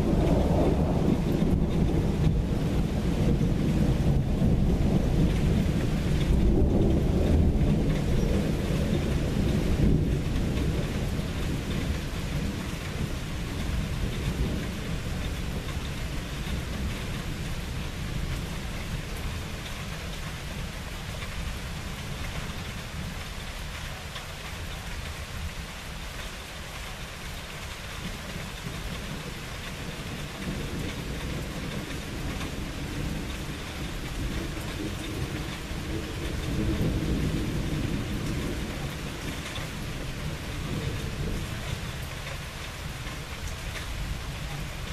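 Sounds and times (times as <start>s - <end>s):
low rolling thunder: 0.0s - 26.1s, 27.6s - 44.9s
rain falling: 0.0s - 44.9s.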